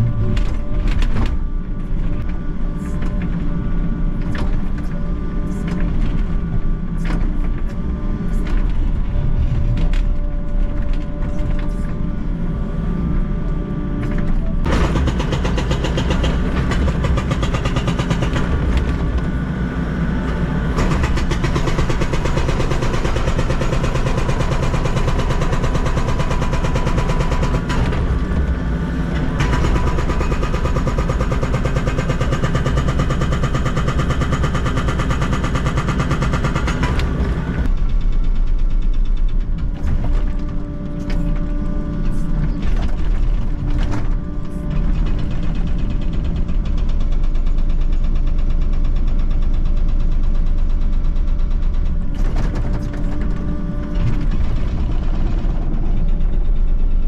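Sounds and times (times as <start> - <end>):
excavator engine and hydraulics: 0.0 - 57.0.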